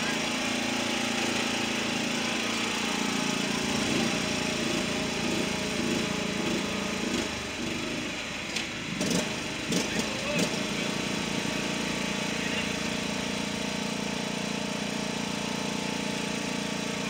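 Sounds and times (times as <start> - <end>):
riding mower engine running: 0.0 - 17.0.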